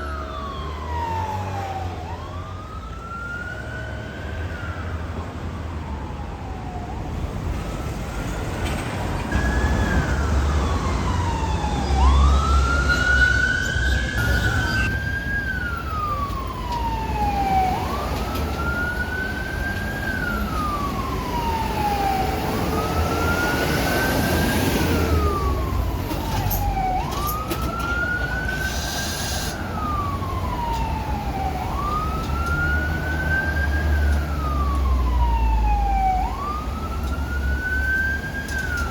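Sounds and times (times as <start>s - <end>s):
motorcycle siren wailing: 0.0s - 7.0s, 9.4s - 38.9s
engine and traffic rumble: 0.0s - 38.9s.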